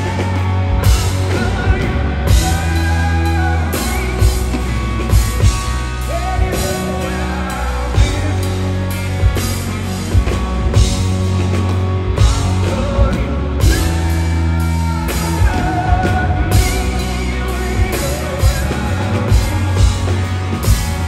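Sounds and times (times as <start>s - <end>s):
drums: 0.0s - 21.0s
electric guitar: 0.0s - 21.0s
heavy bass: 0.0s - 21.0s.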